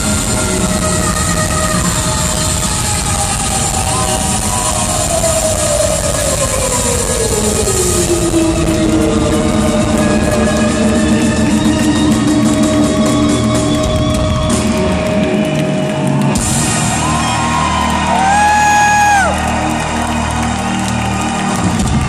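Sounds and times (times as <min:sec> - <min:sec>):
drum kit: 0:00.0 - 0:22.0
electric guitar: 0:00.0 - 0:22.0.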